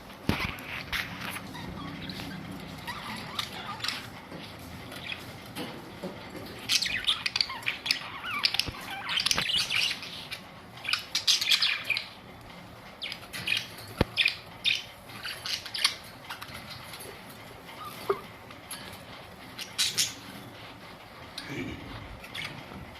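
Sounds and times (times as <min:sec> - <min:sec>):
budgerigars chirping and chattering: 0:00.3 - 0:12.3, 0:13.0 - 0:20.6, 0:21.5 - 0:22.8.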